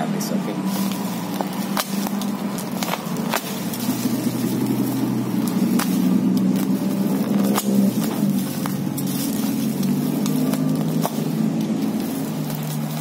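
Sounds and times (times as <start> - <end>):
steady low hum: 0.0 - 13.0
plastic wrapping crinkling: 0.7 - 13.0.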